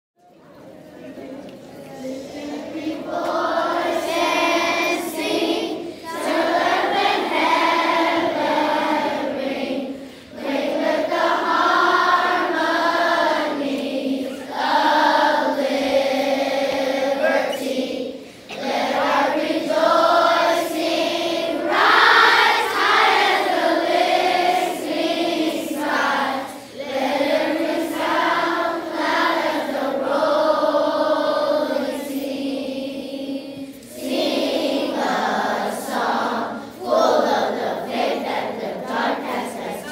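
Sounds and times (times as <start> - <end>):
children's choir singing: 0.2 - 39.9.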